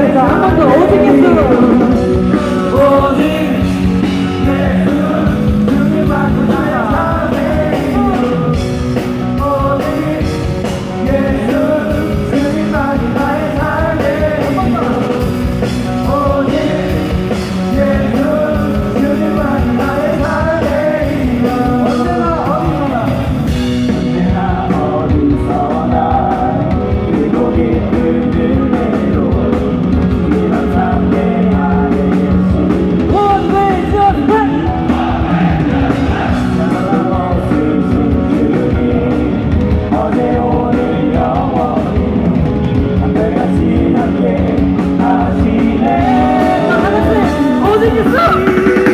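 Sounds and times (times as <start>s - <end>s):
live band with electric guitar: 0.0s - 48.9s
young men singing together: 0.0s - 48.9s.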